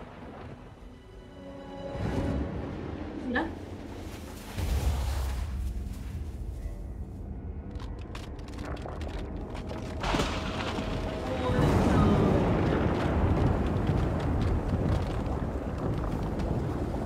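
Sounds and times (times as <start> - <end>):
dramatic film music: 0.0 - 17.0
deep rumble: 2.5 - 17.0.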